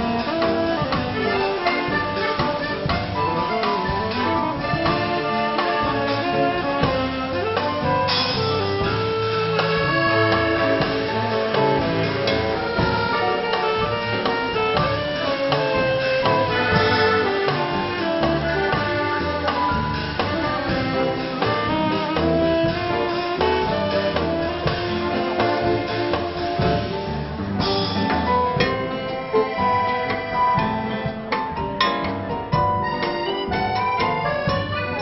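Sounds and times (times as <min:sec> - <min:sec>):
saxophone: 0:00.0 - 0:27.3, 0:28.0 - 0:31.2, 0:32.6 - 0:35.0
live dance band: 0:00.0 - 0:35.0.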